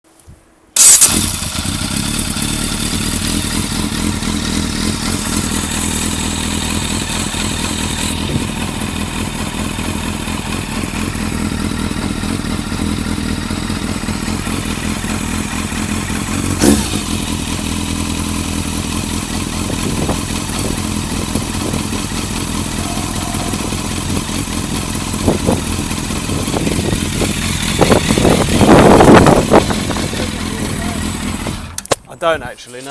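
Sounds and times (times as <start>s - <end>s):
motorcycle engine idling roughly: 0.8s - 31.9s.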